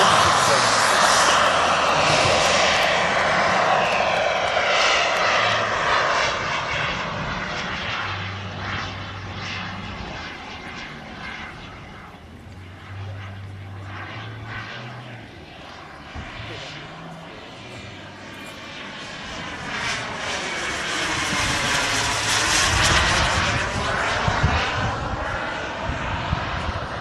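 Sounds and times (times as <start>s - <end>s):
model jet engines roaring: 0.0s - 27.0s.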